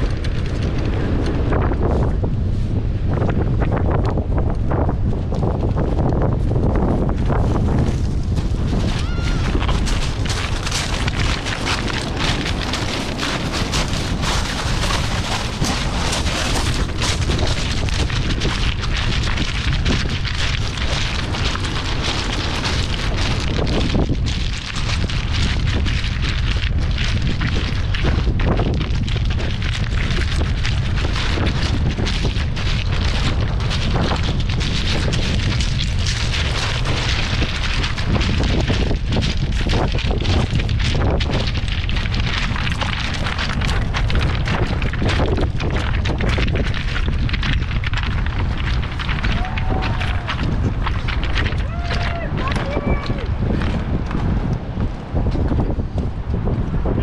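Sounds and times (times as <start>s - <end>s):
rushing wind: 0.0s - 57.0s
wind buffeting microphone: 0.0s - 57.0s
surf breaking on beach: 7.2s - 54.6s.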